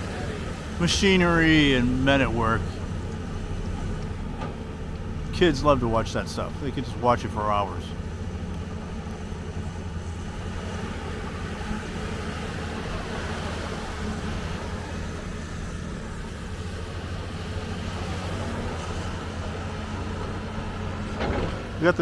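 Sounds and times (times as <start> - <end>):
heavy vehicle engine running: 0.0 - 22.0.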